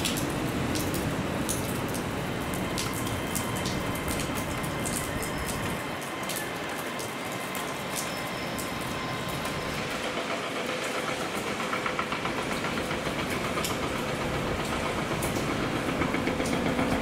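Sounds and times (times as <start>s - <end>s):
rain pattering: 0.0s - 17.0s
train diesel engines running: 0.2s - 17.0s.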